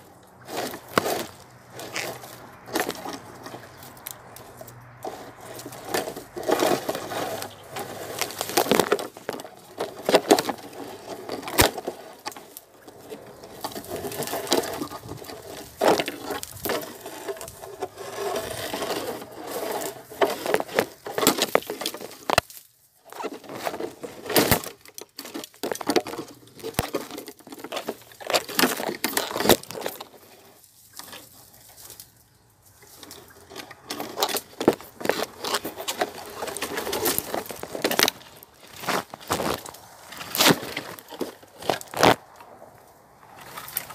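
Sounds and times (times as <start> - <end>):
rustling and crackling: 0.0 - 43.9.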